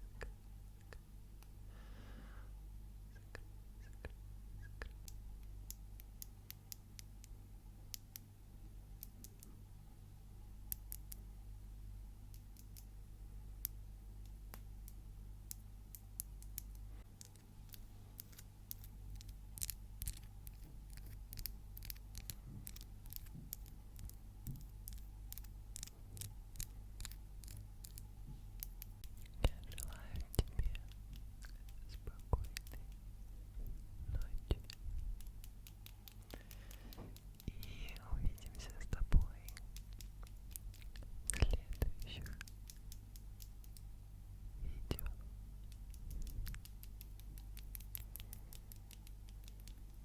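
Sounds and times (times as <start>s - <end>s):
faint low hum: 0.0s - 50.0s.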